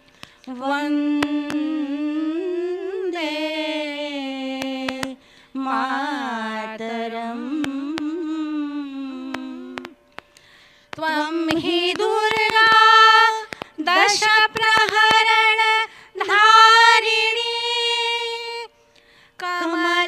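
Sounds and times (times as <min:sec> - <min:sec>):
women singing together: 0:00.5 - 0:10.0, 0:10.9 - 0:18.7, 0:19.4 - 0:20.0.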